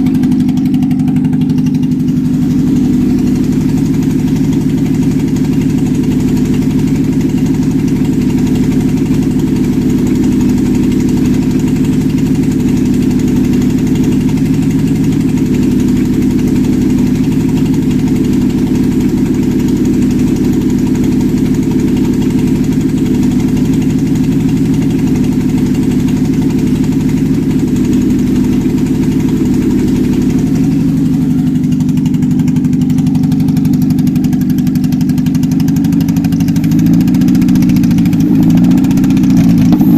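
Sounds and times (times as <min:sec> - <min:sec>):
petrol engine idling: 0:00.0 - 0:39.9.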